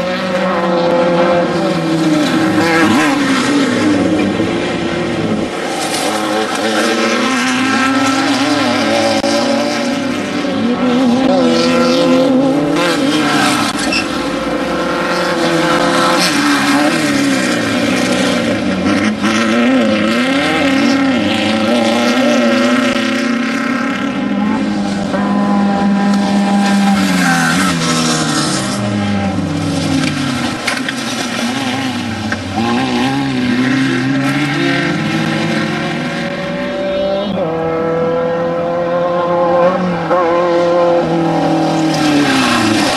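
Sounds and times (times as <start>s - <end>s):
race vehicle engines revving: 0.0s - 42.9s.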